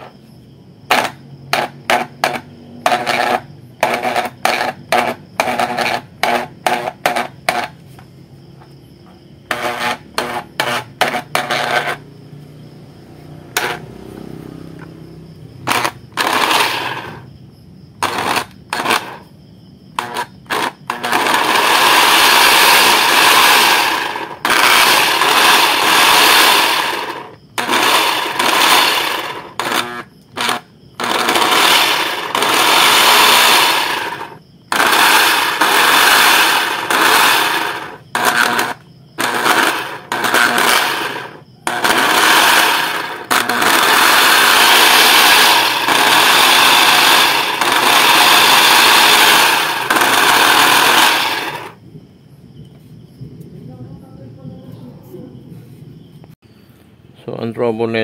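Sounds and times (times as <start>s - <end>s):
sander motor rattling: 0.9s - 8.0s, 9.4s - 12.3s, 13.2s - 15.0s, 15.6s - 17.3s, 18.0s - 19.2s, 19.9s - 51.8s.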